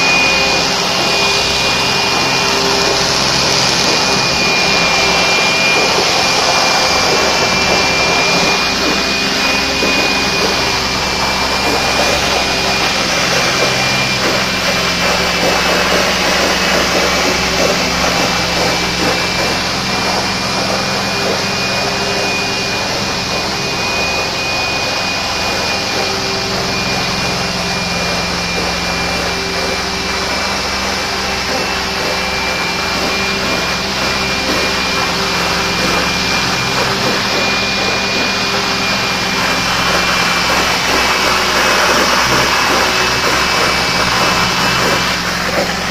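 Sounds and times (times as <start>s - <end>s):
vacuum suction hiss with whine: 0.0s - 45.9s
water jets spraying: 0.0s - 45.9s.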